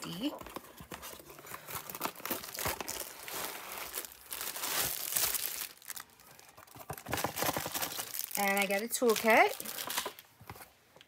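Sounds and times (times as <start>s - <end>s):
plastic wrapping crinkling: 0.1s - 10.6s.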